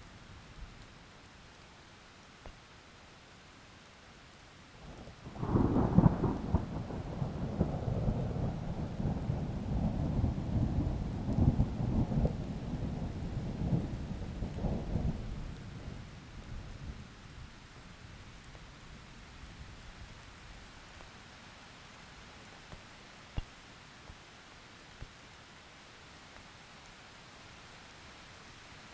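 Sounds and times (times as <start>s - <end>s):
light steady rain: 0.0s - 28.9s.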